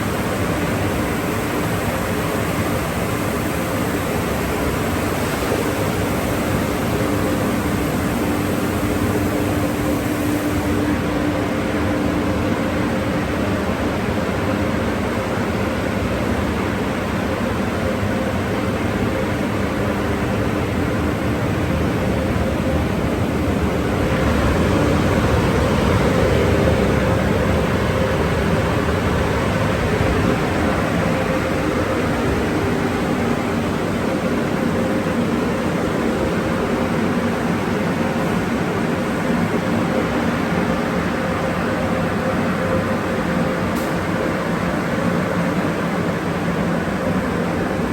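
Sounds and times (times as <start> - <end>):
drying blowers rushing air: 0.0 - 47.9.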